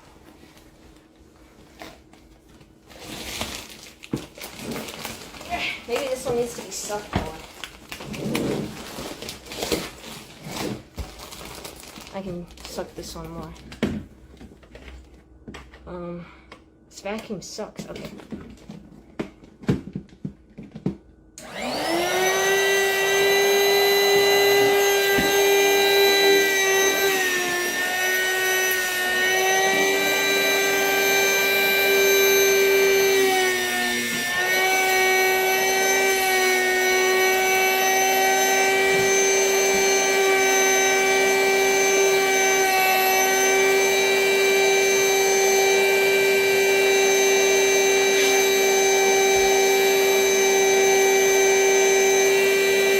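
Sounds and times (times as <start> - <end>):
vacuum cleaner whining: 0.0 - 14.0, 20.8 - 52.9.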